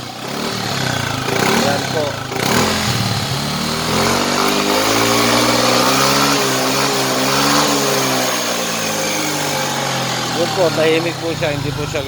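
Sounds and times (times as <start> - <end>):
scooter engine revving: 0.0 - 12.0.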